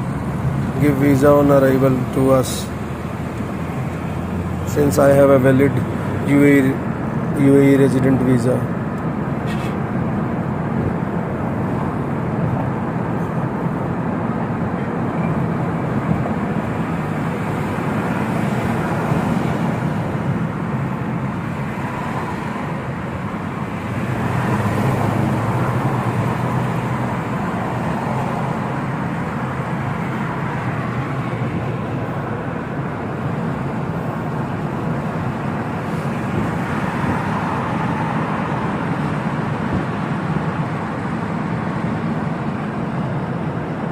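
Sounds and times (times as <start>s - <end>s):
car tyres and engine rumble: 0.0s - 43.9s.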